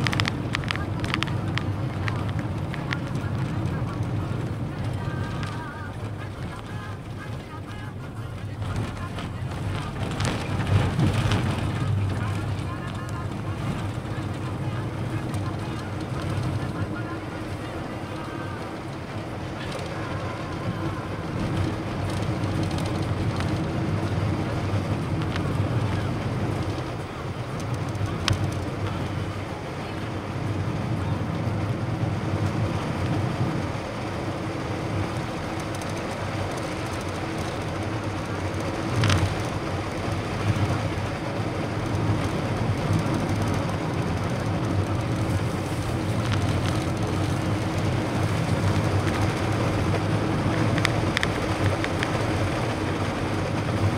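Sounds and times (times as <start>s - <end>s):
car engine and tyre drone: 0.0s - 53.9s
wind noise: 0.0s - 53.9s.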